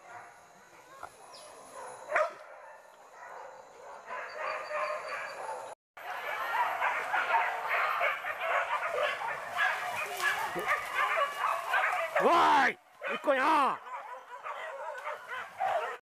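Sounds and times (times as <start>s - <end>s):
dogs barking and yelping: 0.0s - 12.4s, 13.0s - 16.0s.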